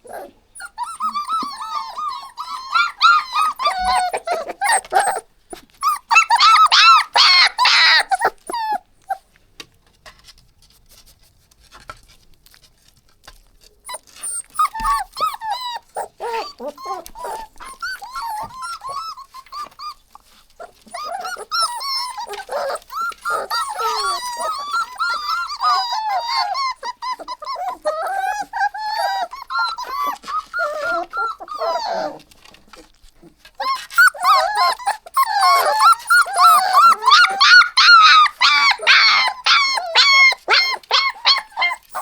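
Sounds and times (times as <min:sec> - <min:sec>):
puppies whining and whimpering: 0:00.0 - 0:09.2, 0:13.8 - 0:42.0.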